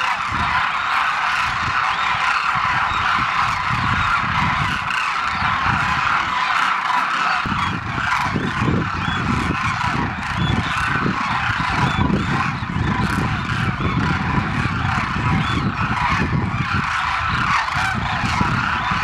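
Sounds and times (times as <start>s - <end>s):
flock of cranes croaking: 0.0s - 19.0s.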